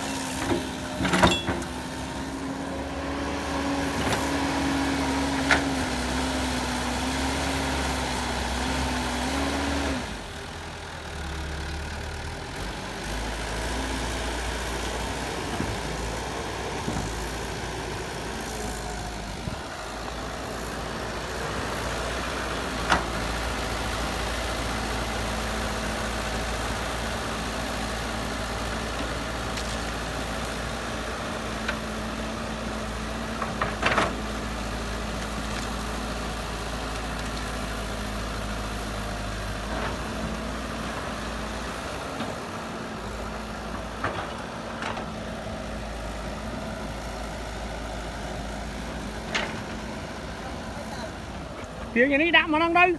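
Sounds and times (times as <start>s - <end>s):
heavy diesel machinery engine running: 0.0s - 52.9s.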